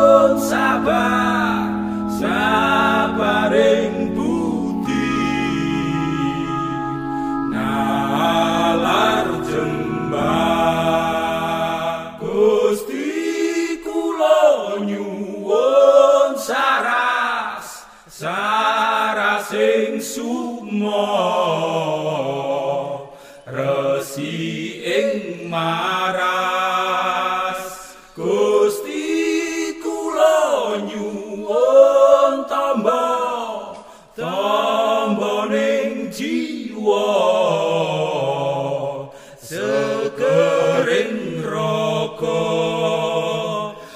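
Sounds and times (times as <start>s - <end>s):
person singing prayer song: 0.0s - 17.5s, 18.2s - 43.9s.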